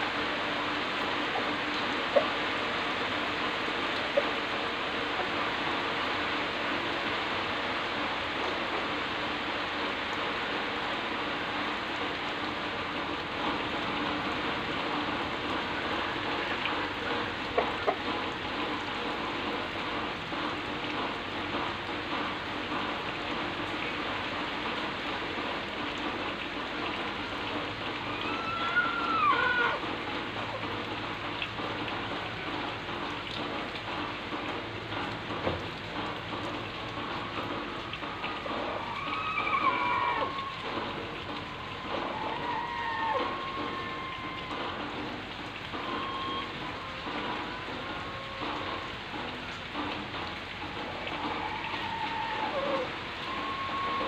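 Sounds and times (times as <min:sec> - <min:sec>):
rain falling on vegetation: 0:00.0 - 0:54.0.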